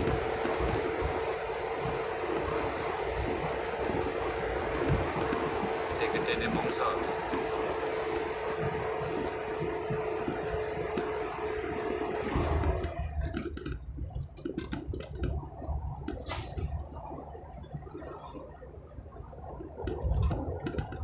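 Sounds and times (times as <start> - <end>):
low road rumble: 0.0 - 21.0
vehicle whine: 0.0 - 21.0.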